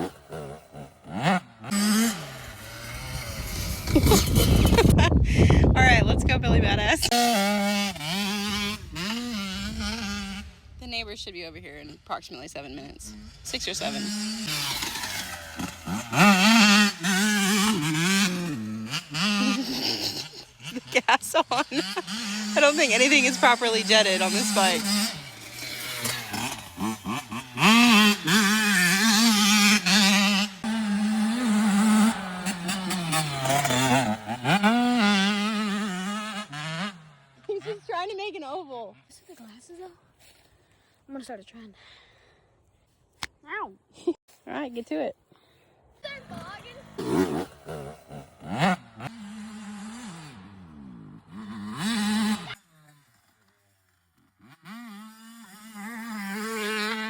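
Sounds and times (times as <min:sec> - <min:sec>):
motocross bike engine revving: 0:00.0 - 0:41.4, 0:46.0 - 0:57.0.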